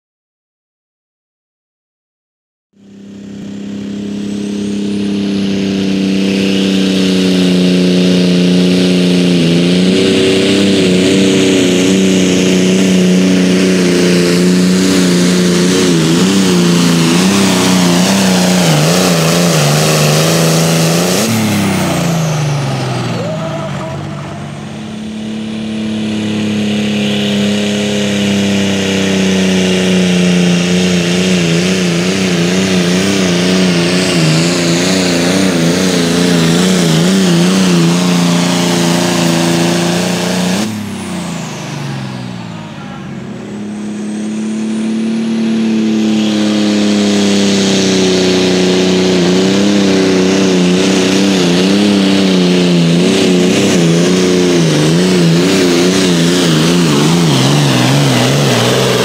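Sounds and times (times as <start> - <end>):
tractor diesel engine under full load: 2.7 - 59.0.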